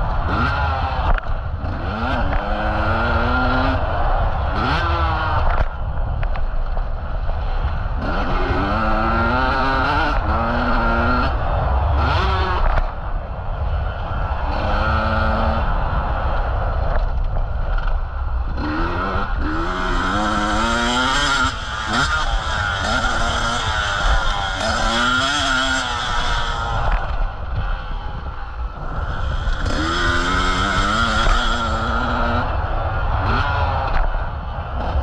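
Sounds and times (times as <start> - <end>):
motocross bike engine revving: 0.0 - 5.8, 7.1 - 12.9, 13.5 - 16.5, 18.5 - 35.0
constant low rumble: 0.0 - 35.0.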